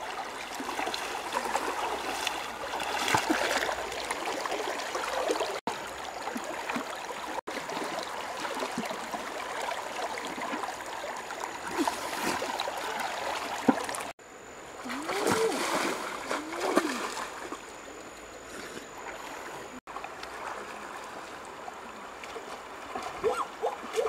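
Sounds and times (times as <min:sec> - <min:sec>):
splashes of wading: 0:00.0 - 0:14.2, 0:14.8 - 0:24.0
river water gurgling: 0:00.0 - 0:24.0.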